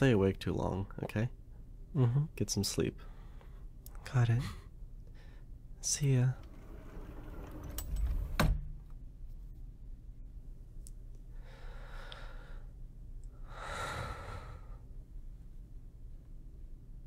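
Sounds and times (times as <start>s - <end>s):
faint low room hum: 0.0s - 17.0s.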